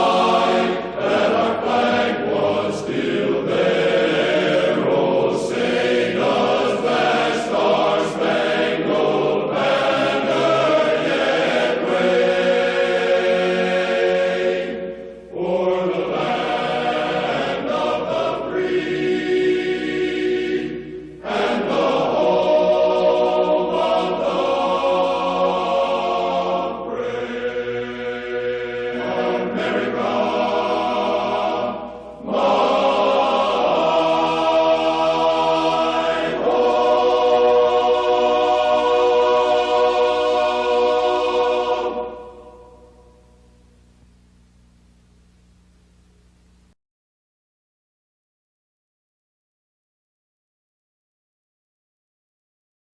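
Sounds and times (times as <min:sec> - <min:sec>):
choir singing: 0:00.0 - 0:43.4.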